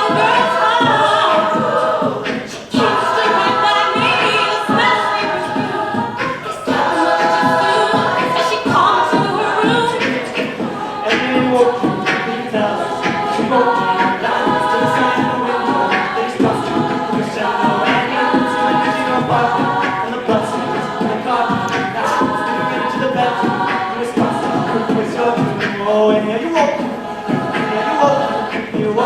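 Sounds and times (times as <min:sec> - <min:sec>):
a cappella group singing: 0:00.0 - 0:29.0.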